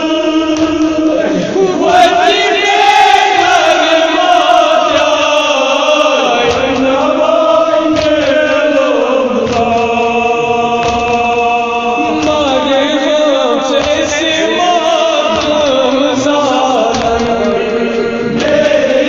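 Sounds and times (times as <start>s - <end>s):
voices chanting a lament: 0.0s - 19.0s.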